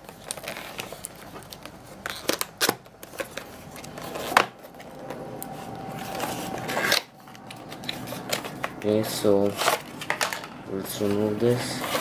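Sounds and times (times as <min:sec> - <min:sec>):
cardboard and paper rustling: 0:00.0 - 0:12.0.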